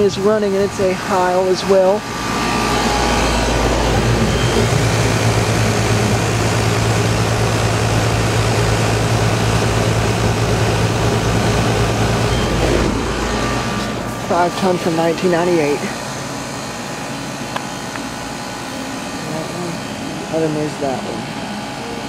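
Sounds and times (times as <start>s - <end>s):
condenser fan rushing: 0.0s - 22.0s
low compressor hum: 0.0s - 22.0s.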